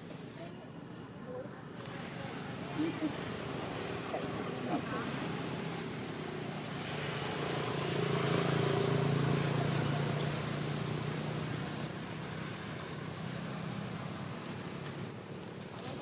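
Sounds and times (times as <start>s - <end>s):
vehicle passing on road: 1.8s - 16.0s.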